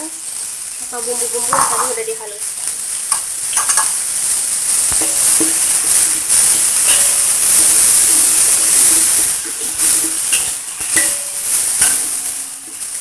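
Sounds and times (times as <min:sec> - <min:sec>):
spice paste sizzling in hot oil: 0:00.0 - 0:13.0.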